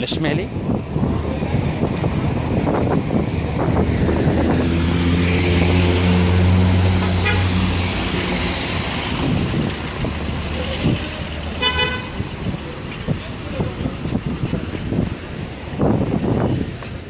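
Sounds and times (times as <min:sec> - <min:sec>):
tyre and road noise: 0:00.0 - 0:17.0
vehicle engine droning: 0:00.4 - 0:17.0.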